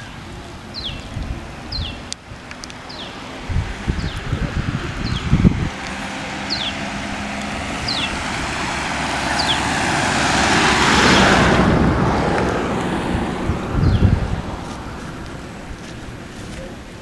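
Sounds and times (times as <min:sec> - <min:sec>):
vehicle passing: 0:00.0 - 0:17.0.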